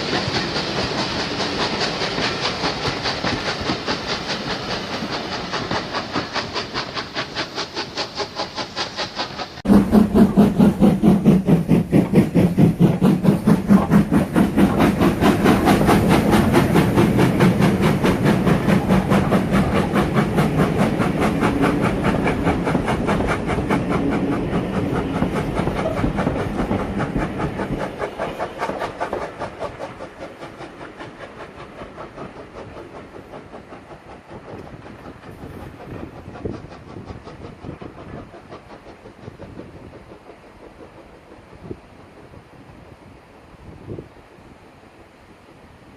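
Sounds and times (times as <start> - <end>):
steam hissing: 0.0 - 45.9
steam locomotive exhaust beat: 0.0 - 45.9.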